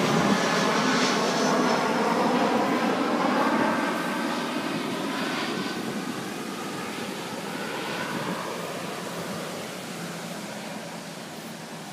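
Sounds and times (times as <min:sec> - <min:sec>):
airliner engines roaring: 0:00.0 - 0:11.9.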